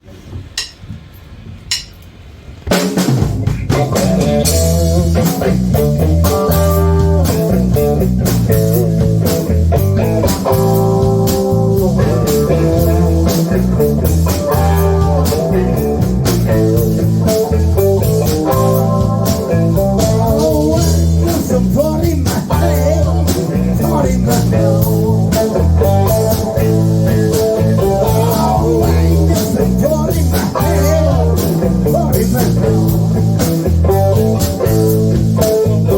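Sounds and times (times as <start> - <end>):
live band with guitar and drums: 2.7 - 35.9.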